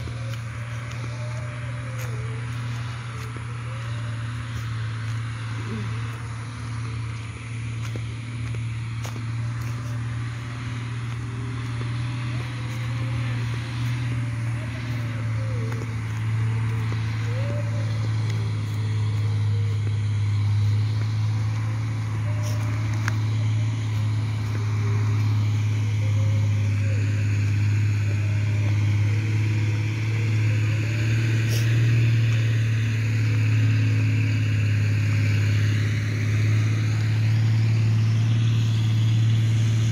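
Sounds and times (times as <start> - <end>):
low engine drone: 0.0 - 39.9.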